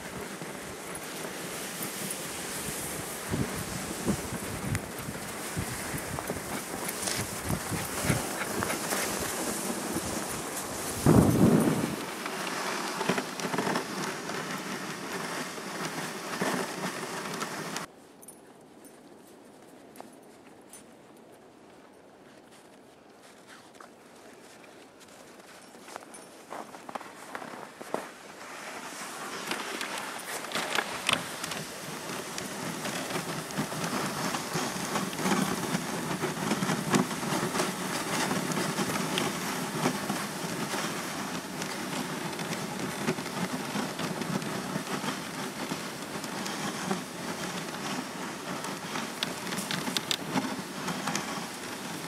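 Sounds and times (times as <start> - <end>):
sled rushing over snow: 0.0 - 17.9, 24.4 - 52.0.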